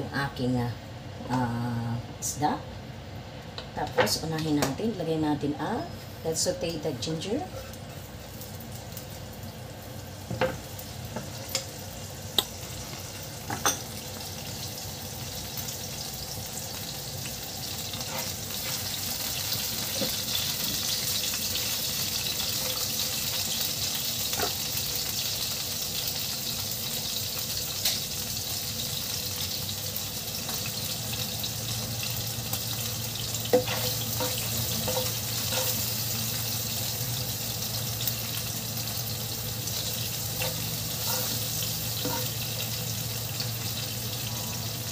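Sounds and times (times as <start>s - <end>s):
ginger sizzling in hot oil: 5.6s - 44.9s.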